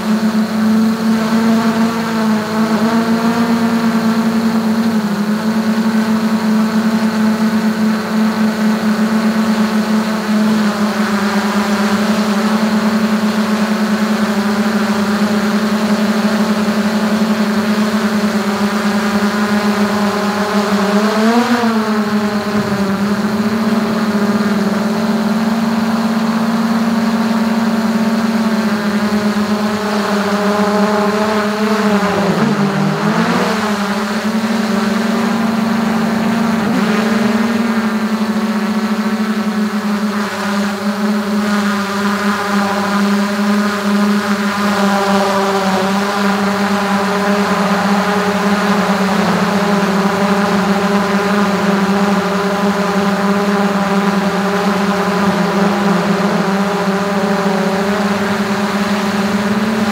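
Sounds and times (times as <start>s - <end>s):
drone motors and propellers humming: 0.0s - 59.9s.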